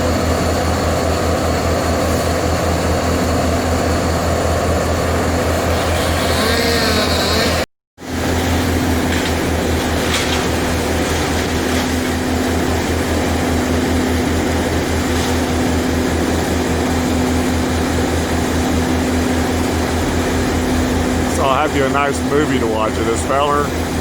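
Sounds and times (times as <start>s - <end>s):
heavy engine running: 0.0s - 24.0s.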